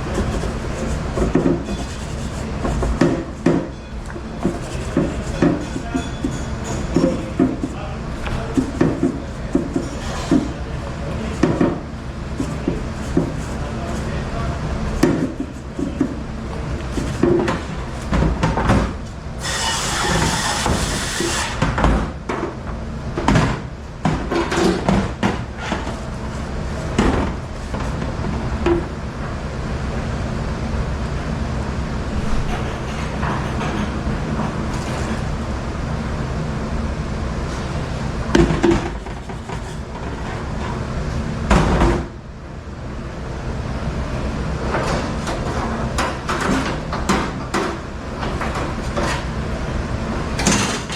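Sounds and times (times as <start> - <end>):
low machine hum: 0.0 - 20.8, 21.7 - 50.9.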